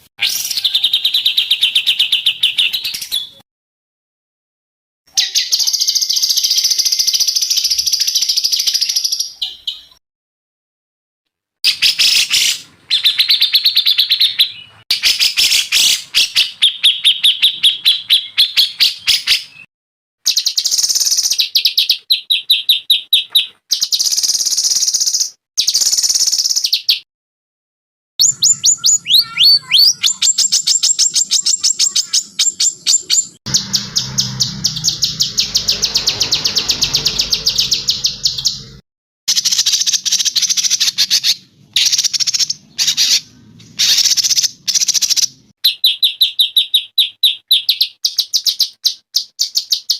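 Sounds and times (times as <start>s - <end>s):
songbirds singing fast trills: 0.2s - 3.4s, 5.1s - 10.0s, 11.7s - 19.7s, 20.3s - 27.0s, 28.2s - 49.9s.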